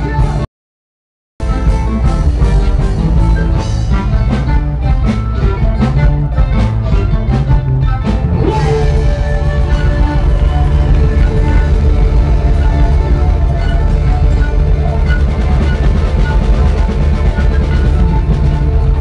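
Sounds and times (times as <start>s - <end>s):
rock band playing: 0.0s - 0.5s, 1.4s - 19.0s.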